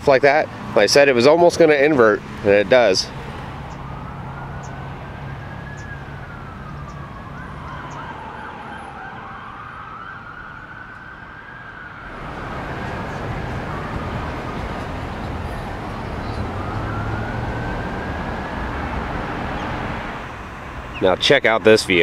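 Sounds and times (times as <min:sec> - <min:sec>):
emergency vehicle siren wailing: 0:01.4 - 0:20.8.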